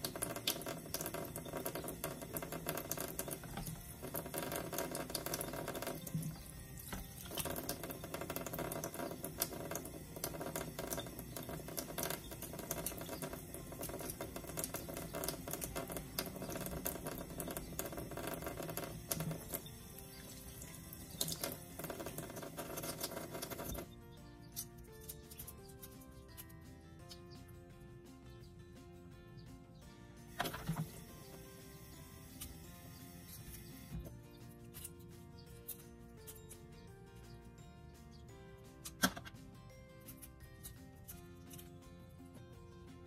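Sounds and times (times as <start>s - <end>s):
soft background music: 0.0s - 43.0s.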